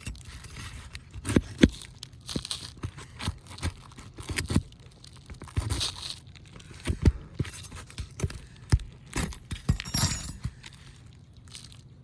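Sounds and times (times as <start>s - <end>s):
shingle scraping and crinkling: 0.0s - 12.0s.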